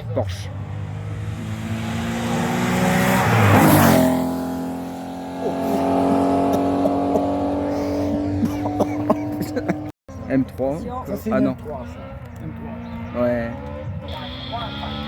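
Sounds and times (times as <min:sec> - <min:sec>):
rally car engine passing: 0:00.0 - 0:15.0.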